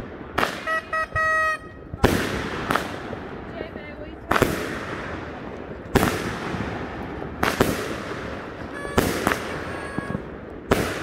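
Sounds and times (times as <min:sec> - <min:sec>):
fireworks shots with echo: 0:00.0 - 0:11.0.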